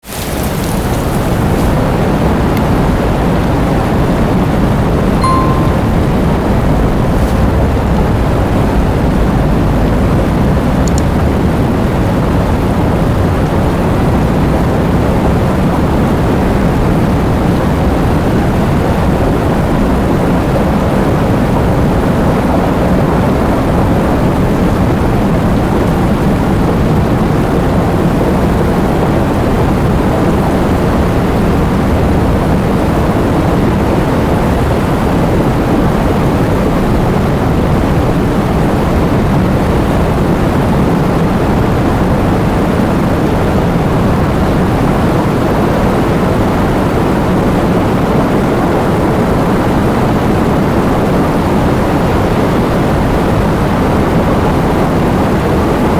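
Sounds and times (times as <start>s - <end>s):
heavy rain with wind: 0.0s - 5.1s, 6.0s - 55.9s.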